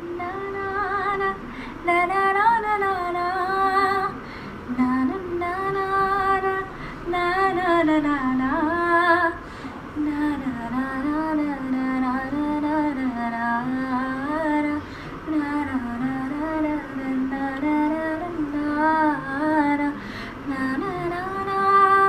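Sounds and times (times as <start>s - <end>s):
woman singing unaccompanied: 0.0s - 22.0s.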